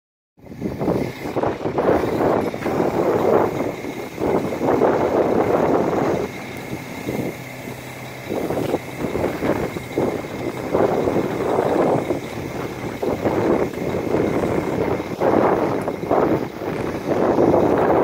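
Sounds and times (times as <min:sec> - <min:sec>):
wind buffeting microphone: 0:00.4 - 0:18.0
low steady hum: 0:00.5 - 0:18.0.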